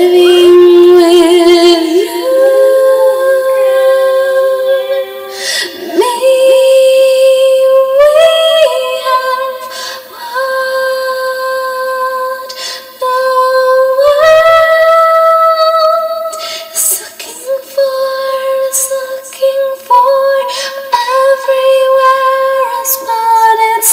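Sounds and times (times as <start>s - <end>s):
woman singing long notes: 0.0s - 23.9s.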